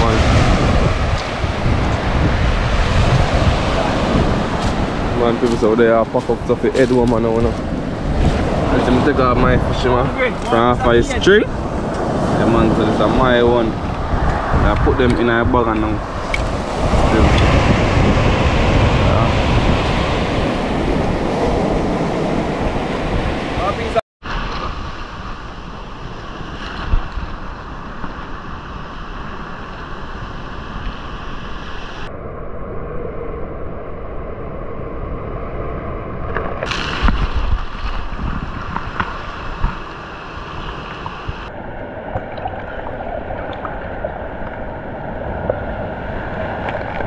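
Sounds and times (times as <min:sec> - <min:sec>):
surf washing over pebbly shore: 0:00.0 - 0:31.8, 0:36.6 - 0:47.0
wave crash: 0:00.0 - 0:32.1, 0:36.2 - 0:47.0.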